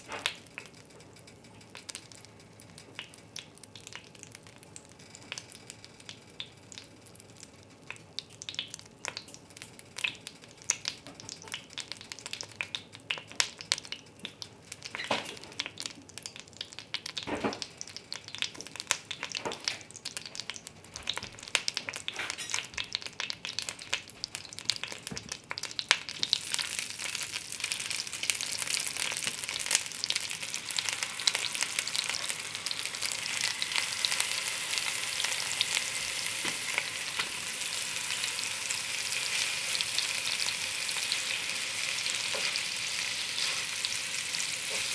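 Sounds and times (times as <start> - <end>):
hot oil crackling and popping: 0.0 - 44.9
meat searing sizzle: 0.0 - 44.9.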